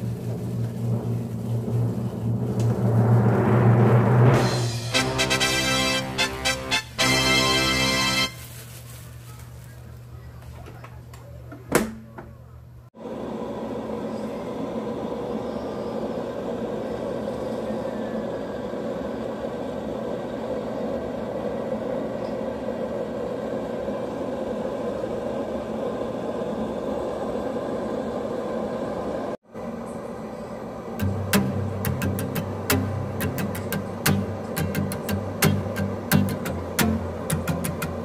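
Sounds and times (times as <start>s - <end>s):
roaster fan humming: 0.0s - 38.0s.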